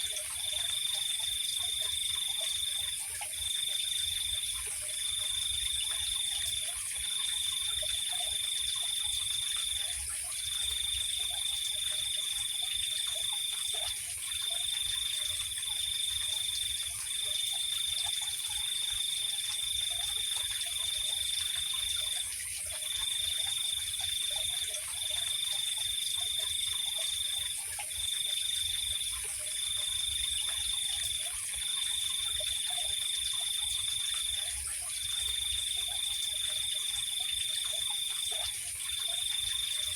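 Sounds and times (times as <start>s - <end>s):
cricket trill: 0.0s - 39.9s
faint low frog calls: 0.0s - 39.9s.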